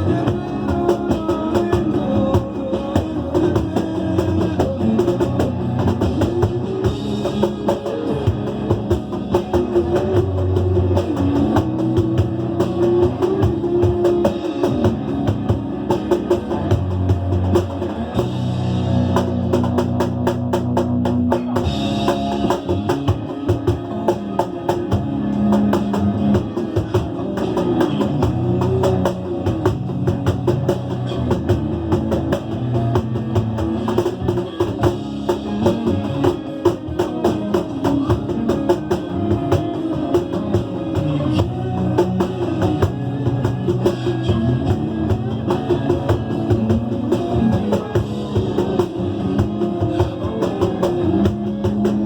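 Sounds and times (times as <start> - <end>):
samba percussion drumming: 0.0 - 52.0.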